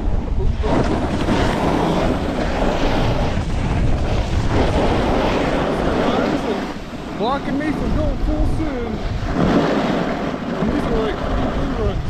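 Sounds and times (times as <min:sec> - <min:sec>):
wind buffeting microphone: 0:00.0 - 0:12.0
snowboard sliding across snow: 0:00.4 - 0:12.0.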